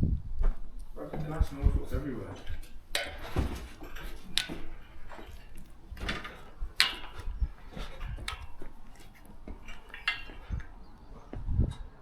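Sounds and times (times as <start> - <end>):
scrapes and knocks: 0.9 - 11.5.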